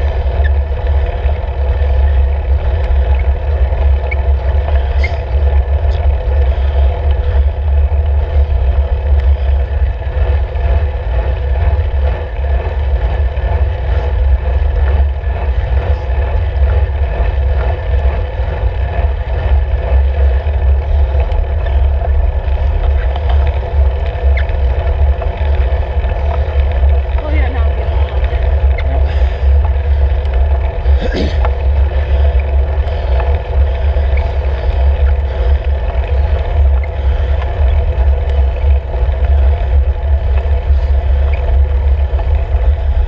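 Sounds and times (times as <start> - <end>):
tyre road noise: 0.0 - 43.0.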